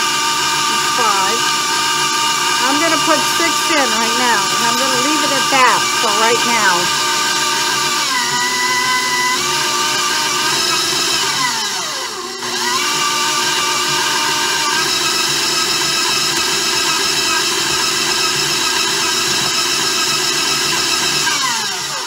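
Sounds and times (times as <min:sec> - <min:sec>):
stand mixer motor whining: 0:00.0 - 0:22.0.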